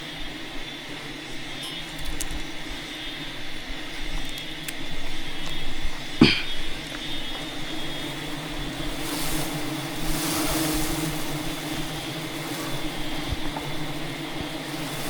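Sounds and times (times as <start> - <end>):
honey bees droning: 0.0 - 15.0
rustling hiss: 0.0 - 15.0.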